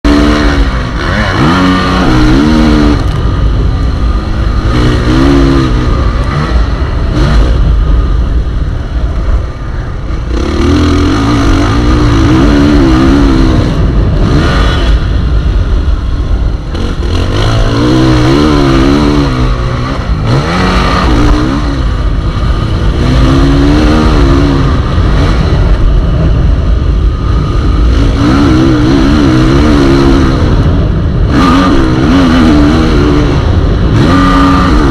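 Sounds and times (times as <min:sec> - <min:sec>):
motocross bike engines revving: 0:00.0 - 0:34.9
steady low rumble: 0:00.0 - 0:34.9.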